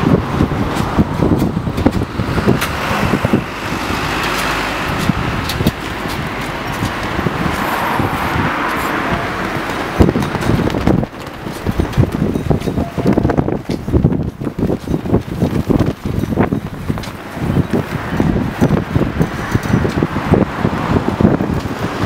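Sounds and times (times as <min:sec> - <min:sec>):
cars passing: 0:00.0 - 0:22.0
wind buffeting microphone: 0:00.0 - 0:22.0.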